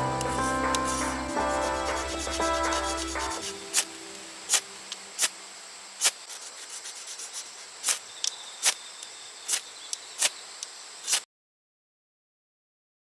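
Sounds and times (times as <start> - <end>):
high insect trill: 0.0 - 11.2.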